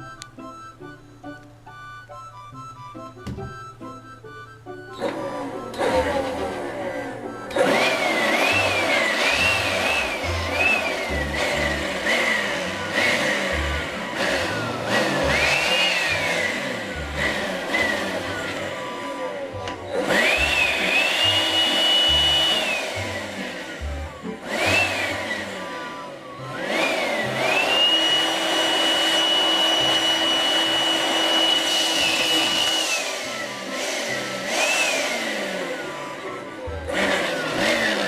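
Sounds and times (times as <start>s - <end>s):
cordless blower motor whine: 4.9s - 38.0s.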